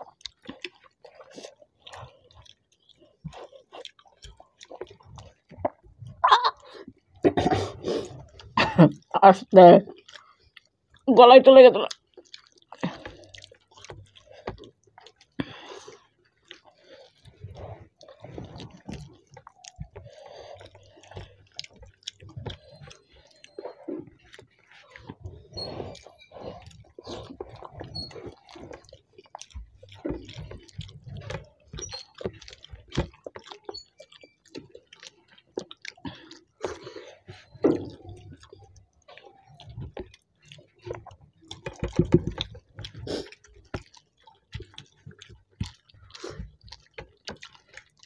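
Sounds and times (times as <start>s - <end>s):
chewing: 0.0s - 9.1s, 9.8s - 11.1s, 11.8s - 48.0s.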